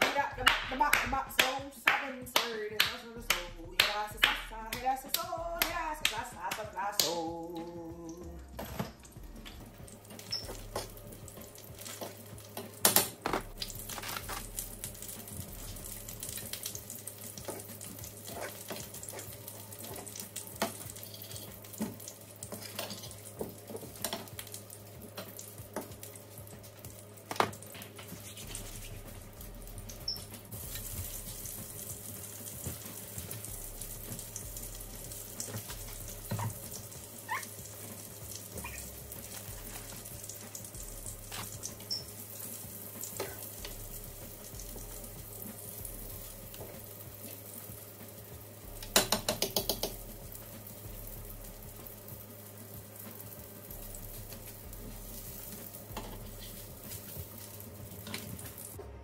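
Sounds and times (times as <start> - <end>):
sausage sizzling in oil: 9.0 - 58.8.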